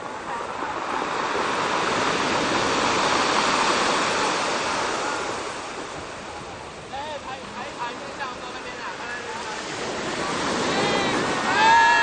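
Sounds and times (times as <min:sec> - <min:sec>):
ocean wave breaking on beach: 0:00.0 - 0:12.0.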